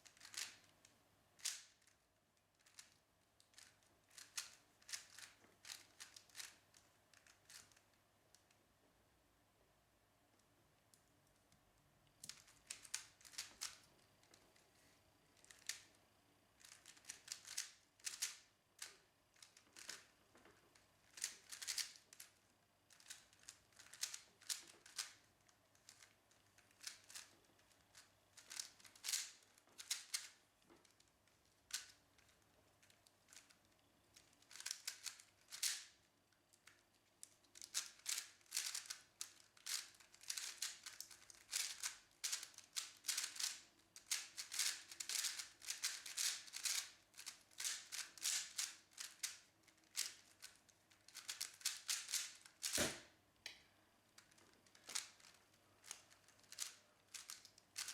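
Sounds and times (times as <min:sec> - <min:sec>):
puzzle cube plastic clicking: 0:00.0 - 0:00.7, 0:01.4 - 0:01.8, 0:02.6 - 0:08.5, 0:12.2 - 0:14.4, 0:15.4 - 0:15.9, 0:16.6 - 0:20.1, 0:20.7 - 0:22.3, 0:22.9 - 0:25.2, 0:25.8 - 0:31.0, 0:31.7 - 0:36.0, 0:36.6 - 0:53.0, 0:54.2 - 0:57.9.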